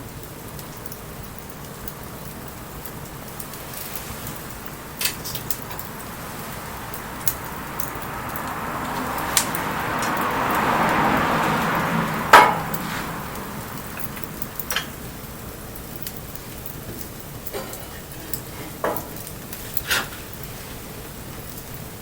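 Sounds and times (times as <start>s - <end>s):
fire popping and crackling: 0.0s - 22.0s
rain hiss: 0.0s - 22.0s.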